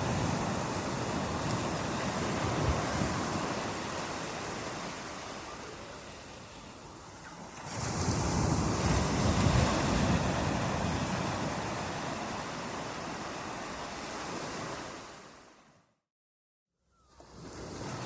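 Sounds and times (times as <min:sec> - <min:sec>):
rushing water: 0:00.0 - 0:15.2.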